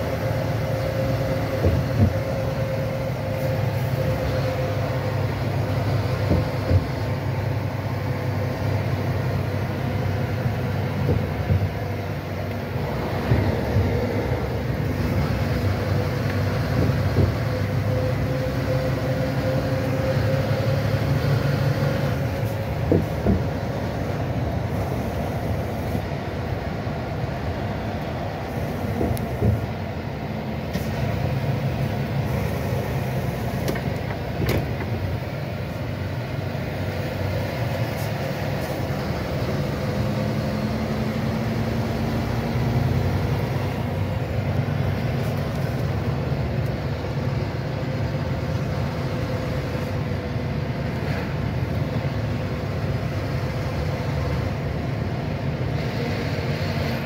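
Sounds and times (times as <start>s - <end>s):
vehicle engine and tyre noise: 0.0s - 57.0s.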